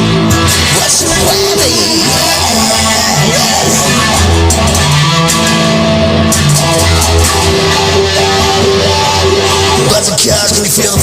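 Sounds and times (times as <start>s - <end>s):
rock music with distorted guitar: 0.0s - 11.0s.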